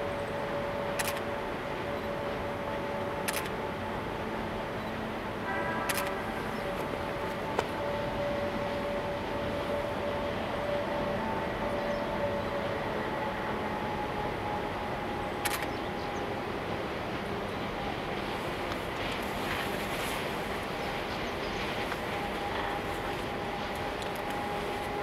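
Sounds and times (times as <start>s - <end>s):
distant train rumbling: 0.0s - 25.0s.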